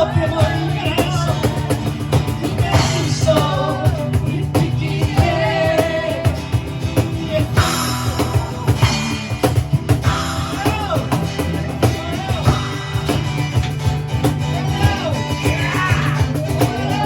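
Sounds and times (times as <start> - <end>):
drum kit: 0.0 - 17.0
guitar: 0.0 - 17.0.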